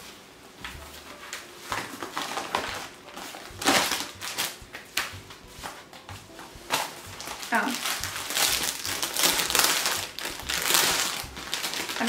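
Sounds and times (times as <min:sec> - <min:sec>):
paper and plastic packaging crinkling: 0:00.0 - 0:12.0.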